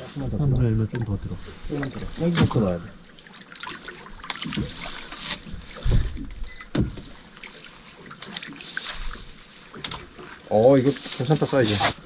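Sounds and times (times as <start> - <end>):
water sloshing against boat: 0.0 - 12.0.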